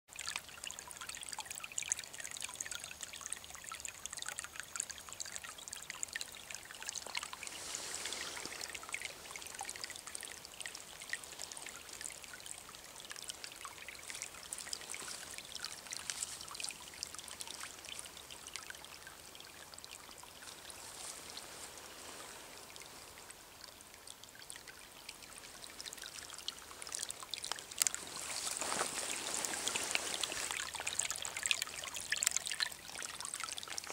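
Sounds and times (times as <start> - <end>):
stream water rushing and gurgling: 0.1 - 33.9.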